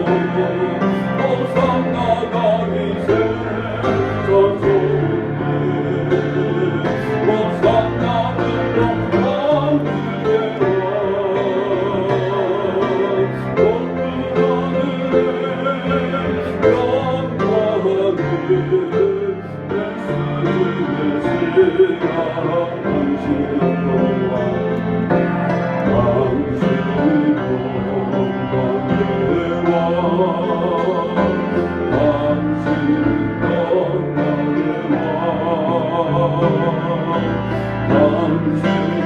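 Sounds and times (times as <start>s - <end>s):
person singing church song: 0.0s - 39.0s
piano accompaniment: 0.0s - 39.0s.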